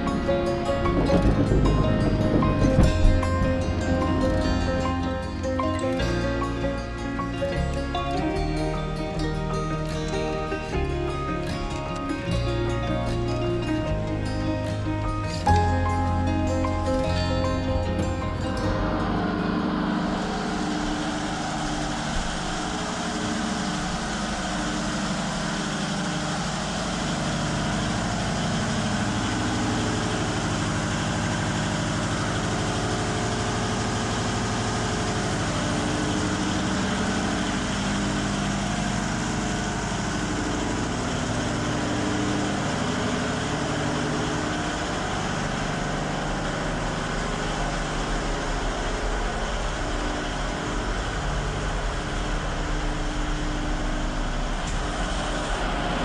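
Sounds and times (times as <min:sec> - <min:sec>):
engine room machinery din: 0:00.0 - 0:56.0.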